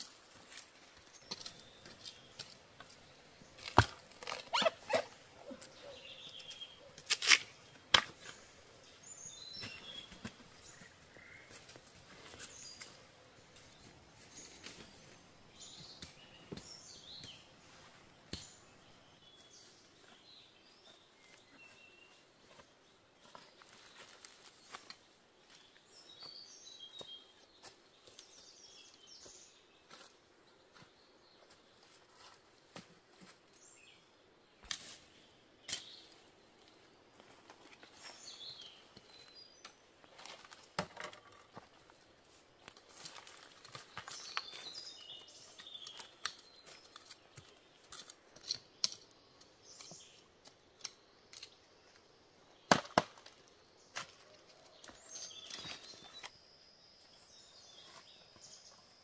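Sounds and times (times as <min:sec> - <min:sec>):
birds chirping: 0:00.0 - 0:32.4, 0:33.5 - 0:59.0.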